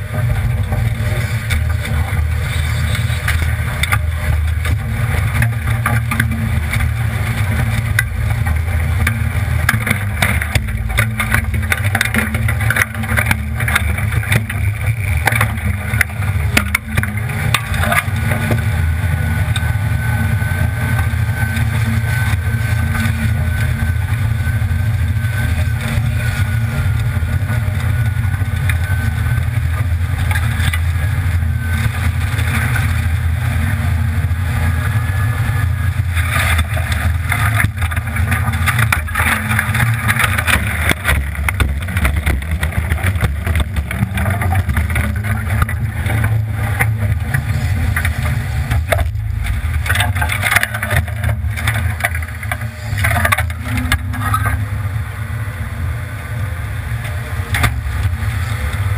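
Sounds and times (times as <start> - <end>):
truck engine running at low revs: 0.0 - 58.9
water splashing and sloshing: 0.0 - 58.9.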